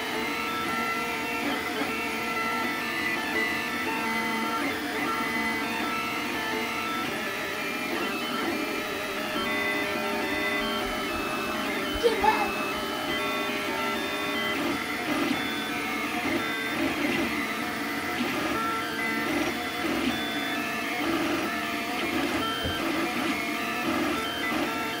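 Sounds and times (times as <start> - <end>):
stepper motors whining: 0.1 - 25.0.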